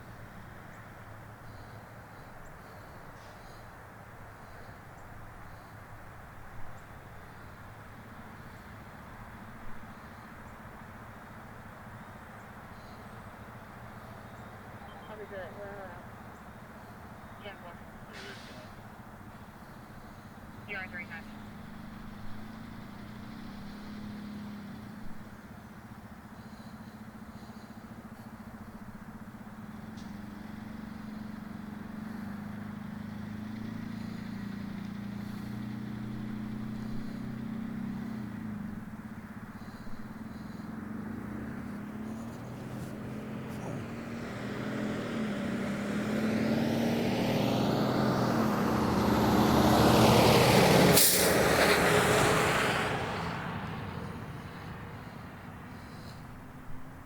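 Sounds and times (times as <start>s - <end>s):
vehicle engine idling: 0.0s - 57.0s
vehicle passing by: 0.0s - 57.0s.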